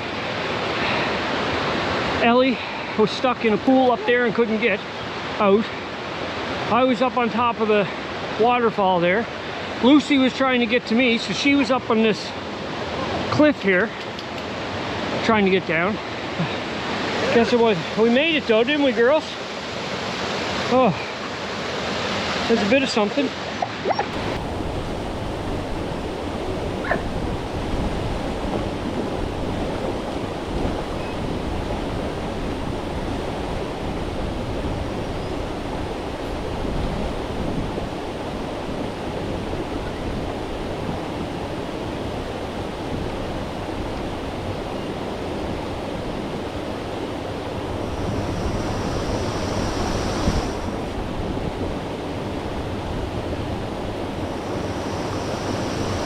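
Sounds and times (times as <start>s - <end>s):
brook and waterfall rushing: 0.0s - 56.0s.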